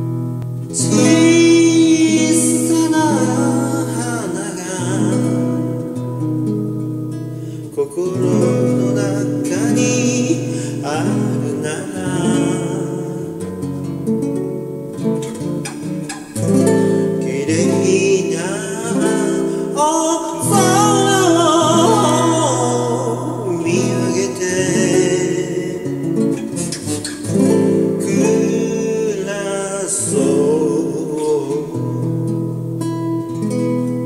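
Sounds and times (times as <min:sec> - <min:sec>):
acoustic guitar: 0:00.0 - 0:34.0
person singing: 0:00.6 - 0:06.2, 0:07.5 - 0:13.8, 0:16.3 - 0:32.4.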